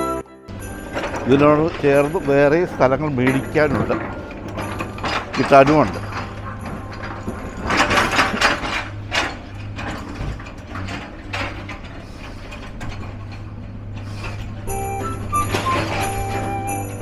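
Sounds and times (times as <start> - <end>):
heavy diesel machinery running: 0.0 - 17.0
clanks and rattles: 0.5 - 17.0.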